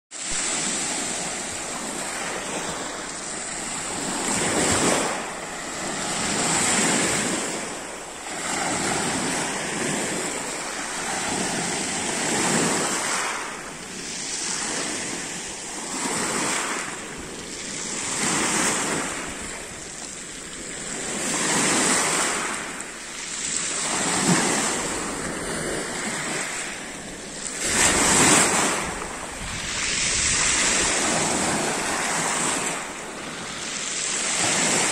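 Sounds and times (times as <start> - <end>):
wind rumbling on microphone: 0.2 - 22.9, 23.6 - 34.9
waves washing on pebble beach: 0.2 - 34.9.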